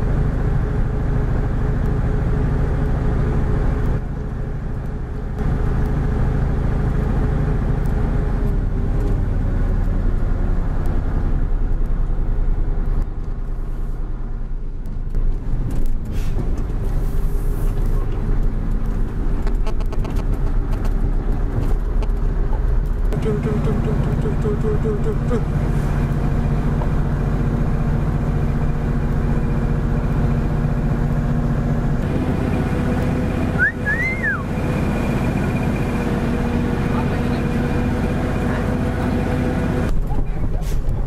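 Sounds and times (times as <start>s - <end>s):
road noise: 0.0s - 41.0s
truck engine running: 0.0s - 41.0s.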